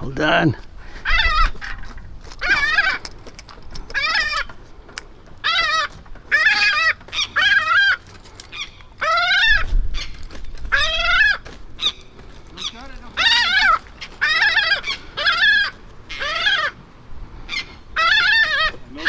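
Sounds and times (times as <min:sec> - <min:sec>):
seagull calling: 0:00.0 - 0:19.0.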